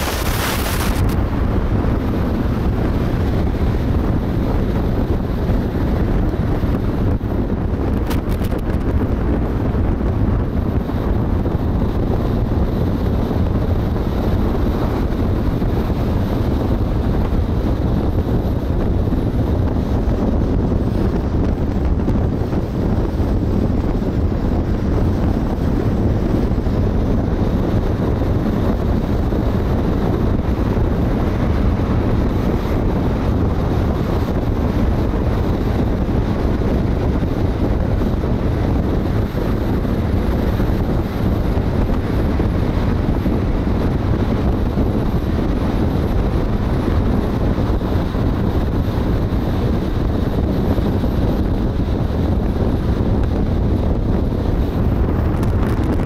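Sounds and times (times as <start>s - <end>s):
tyre and road noise: 0.0s - 56.0s
wind buffeting microphone: 0.0s - 56.0s.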